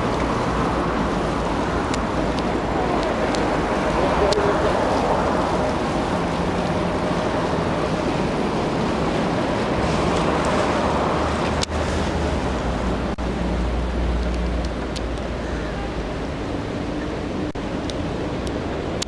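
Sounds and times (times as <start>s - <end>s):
boat engine drone: 0.0s - 19.0s
river water washing: 0.0s - 19.0s.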